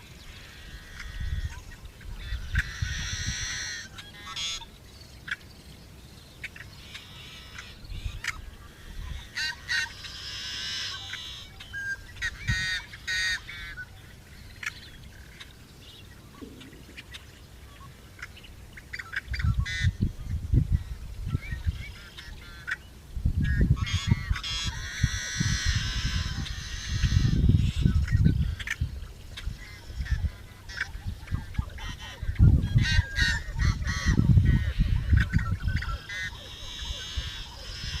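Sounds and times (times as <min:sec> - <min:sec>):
birds harsh calls: 0:00.0 - 0:38.0.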